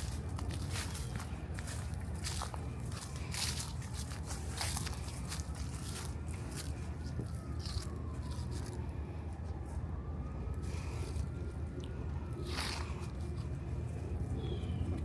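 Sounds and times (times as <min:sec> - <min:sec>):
footsteps crunching dry leaves: 0:00.0 - 0:09.8, 0:10.6 - 0:15.0
distant siren wailing: 0:00.0 - 0:15.0
low city rumble: 0:00.0 - 0:15.0.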